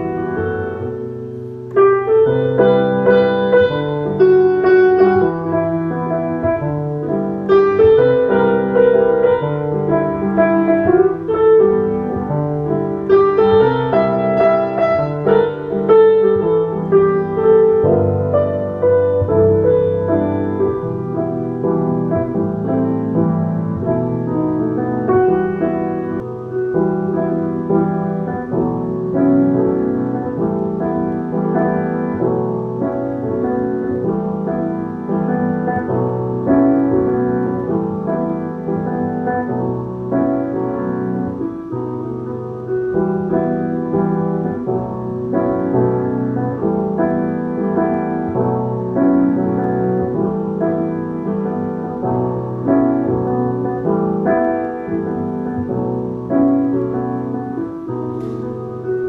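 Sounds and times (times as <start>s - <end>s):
piano playing jazz waltz: 0.0s - 59.0s.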